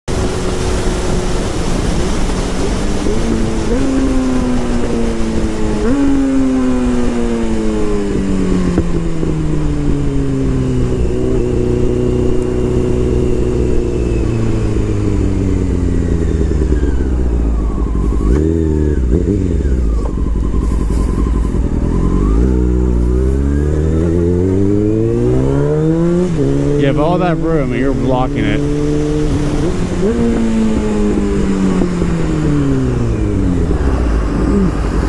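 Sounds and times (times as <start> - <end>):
motorcycle engine: 0.1 - 35.0.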